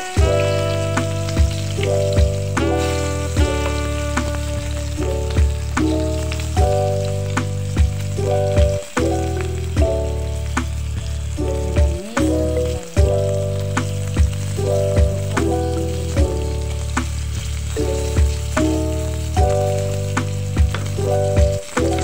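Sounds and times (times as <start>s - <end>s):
background music with beat: 0.0s - 22.0s
fish sizzling in oil: 0.0s - 22.0s.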